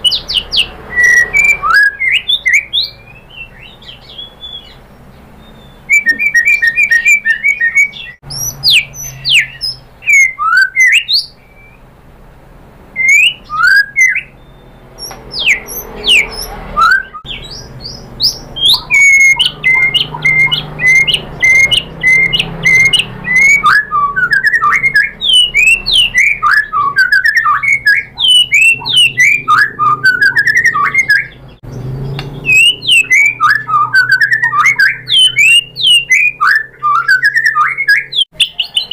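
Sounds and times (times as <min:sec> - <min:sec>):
bird singing whistles: 0:00.0 - 0:04.8, 0:05.4 - 0:11.8, 0:13.0 - 0:38.9.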